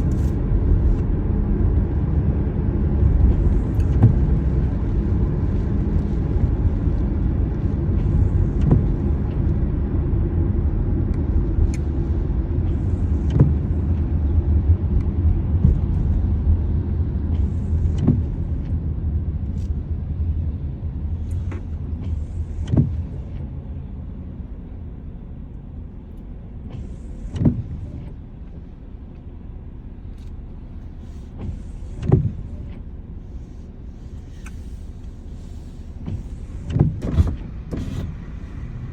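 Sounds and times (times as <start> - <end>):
car road rumble: 0.0 - 38.9.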